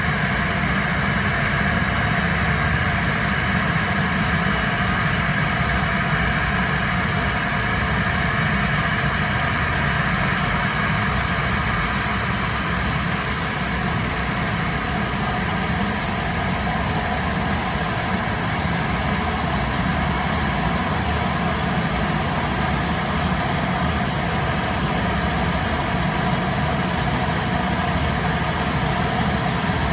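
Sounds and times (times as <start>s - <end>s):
engine rumbling with whine: 0.3s - 29.9s.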